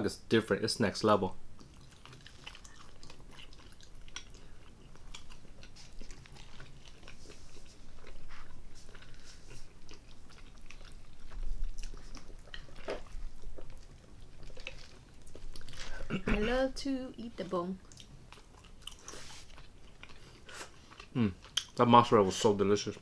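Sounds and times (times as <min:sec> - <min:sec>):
wet chewing: 0:01.5 - 0:16.7, 0:17.7 - 0:23.0.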